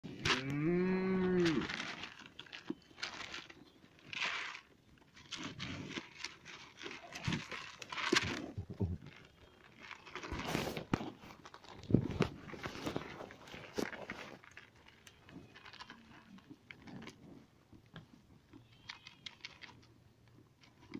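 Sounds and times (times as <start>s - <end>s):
sheep crunching feed pellets: 0.0s - 20.9s.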